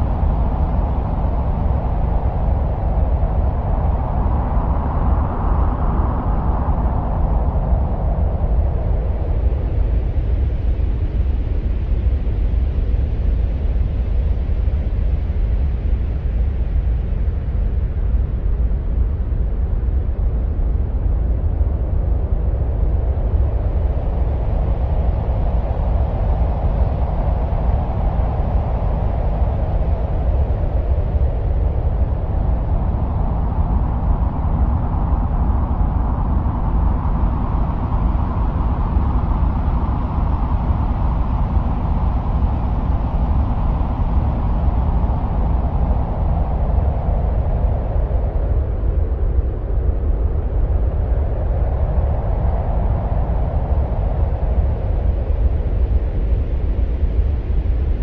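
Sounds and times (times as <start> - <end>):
deep wind-like rumble: 0.0 - 58.0.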